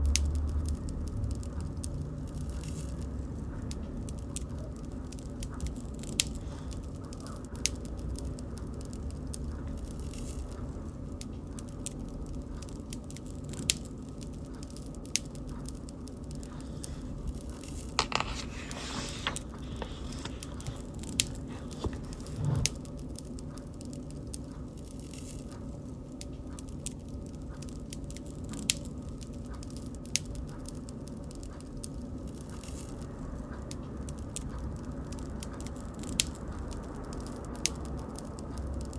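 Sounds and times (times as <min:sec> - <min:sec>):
bonfire crackling and rumbling: 0:00.0 - 0:38.9.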